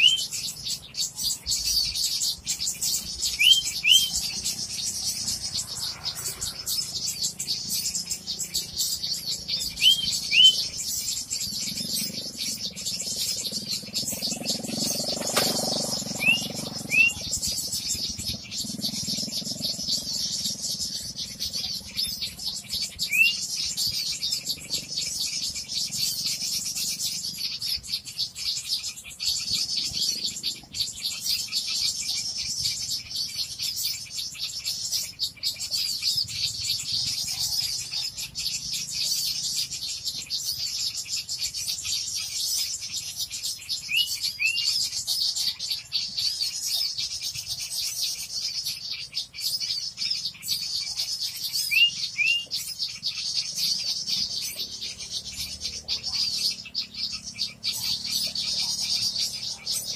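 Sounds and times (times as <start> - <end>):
songbirds twittering: 0.0 - 59.9.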